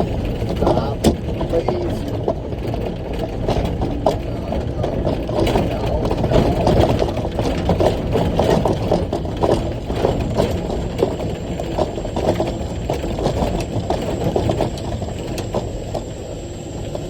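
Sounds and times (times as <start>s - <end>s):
truck engine running: 0.0s - 17.0s
truck rattling and knocking: 0.0s - 17.0s.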